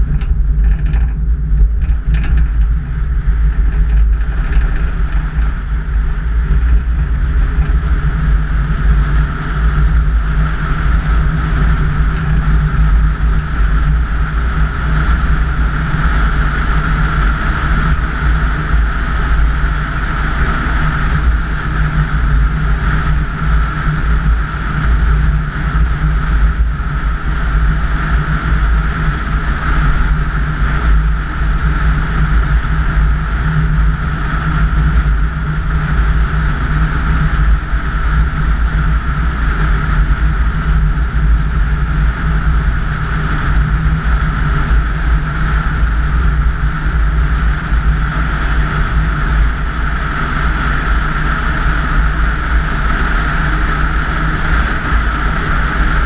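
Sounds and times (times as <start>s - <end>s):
car driving at highway speed: 0.0s - 56.0s.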